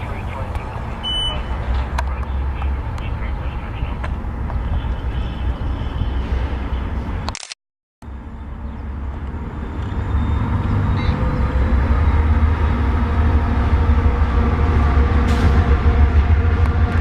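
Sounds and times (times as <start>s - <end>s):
diesel locomotive engine rumble: 0.0s - 7.3s, 8.0s - 17.0s.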